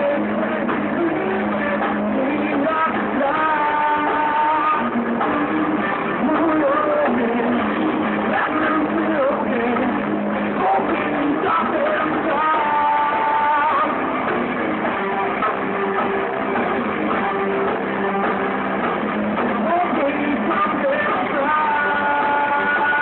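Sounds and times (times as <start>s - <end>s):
drums: 0.0s - 23.0s
electric guitars: 0.0s - 23.0s
person singing: 0.0s - 23.0s.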